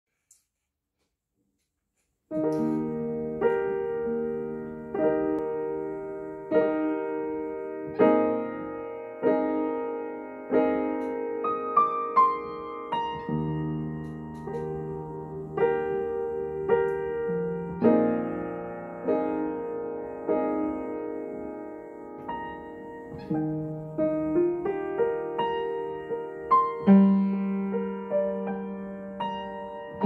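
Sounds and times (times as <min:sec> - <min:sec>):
slow piano piece: 0:02.2 - 0:30.0.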